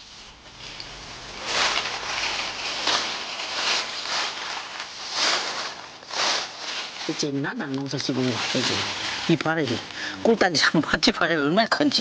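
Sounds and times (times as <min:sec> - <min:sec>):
vines and leaves rustling: 0:00.0 - 0:12.0.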